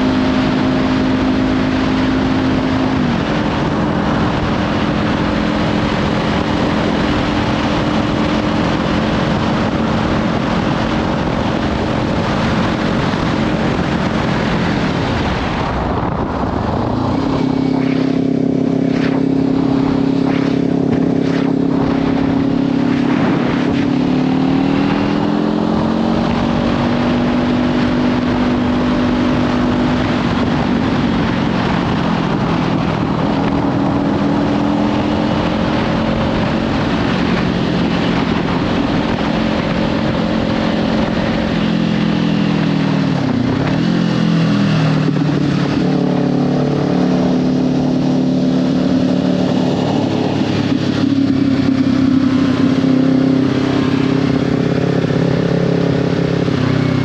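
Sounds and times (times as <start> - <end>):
motorcycle engine at road speed: 0.0 - 57.0
wind noise on microphone: 0.0 - 57.0.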